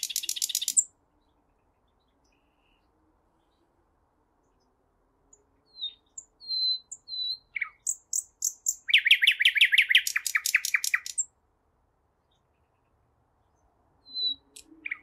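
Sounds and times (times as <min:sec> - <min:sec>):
nightingale singing: 0:00.0 - 0:03.7, 0:04.4 - 0:11.4, 0:12.2 - 0:15.0.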